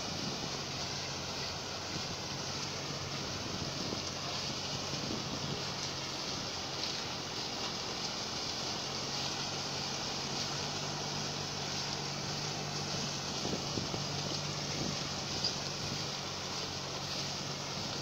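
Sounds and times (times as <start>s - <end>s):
heavy diesel machinery droning: 0.0s - 18.0s.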